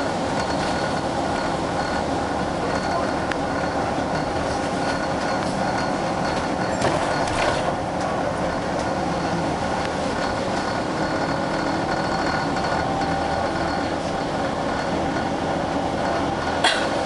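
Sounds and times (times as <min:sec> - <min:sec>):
faint steady whine: 0:00.0 - 0:16.9
bus engine and road rumble: 0:00.0 - 0:17.0.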